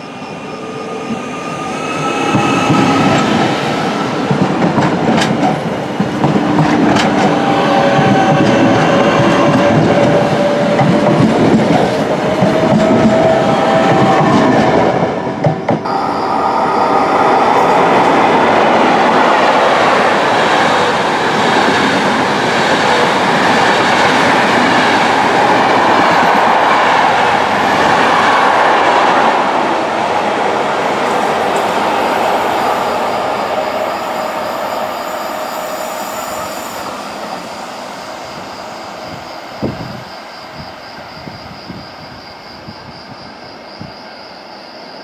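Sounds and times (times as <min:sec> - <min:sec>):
express train rushing past: 0:00.0 - 0:45.0
train whine over wheel rumble: 0:00.0 - 0:45.0.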